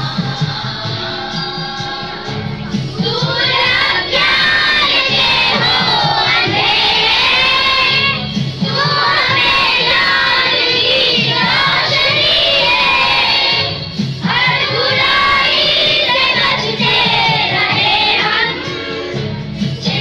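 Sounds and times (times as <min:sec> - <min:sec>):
boys singing together: 0:00.0 - 0:20.0.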